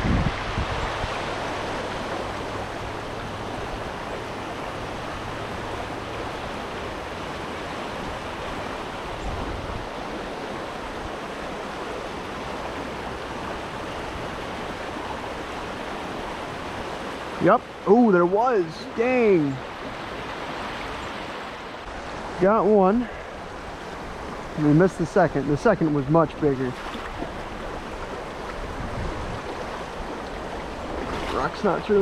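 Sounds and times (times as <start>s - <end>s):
creek water babbling over rocks: 0.4s - 32.0s.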